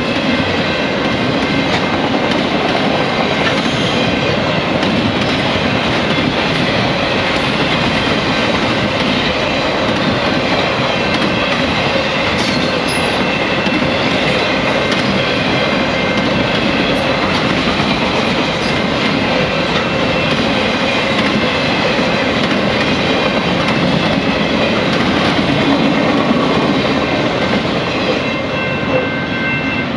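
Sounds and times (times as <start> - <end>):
wheels clickety-clack: 0.0 - 29.1
freight train wheels on rail: 0.0 - 29.9.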